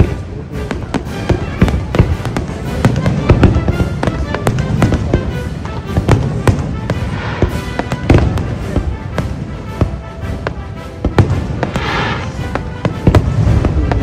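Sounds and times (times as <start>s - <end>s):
fireworks bangs and crackling: 0.0s - 14.0s
music playing: 0.0s - 14.0s.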